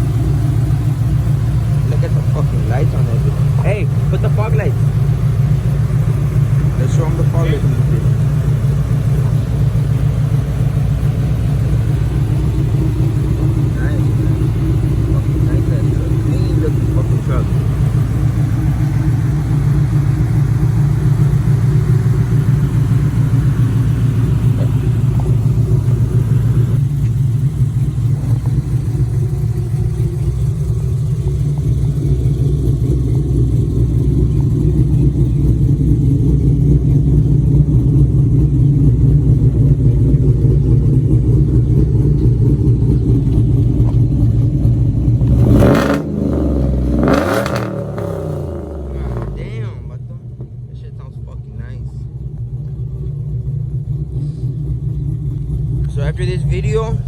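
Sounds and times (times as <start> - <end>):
car engine idling with lope: 0.0 - 57.0.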